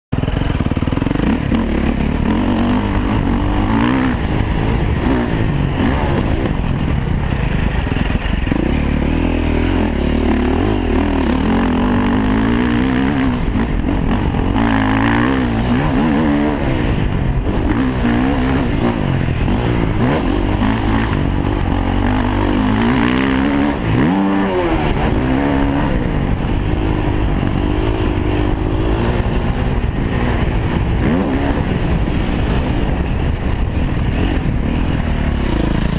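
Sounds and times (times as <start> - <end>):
motocross bike engine revving: 0.2 - 35.9.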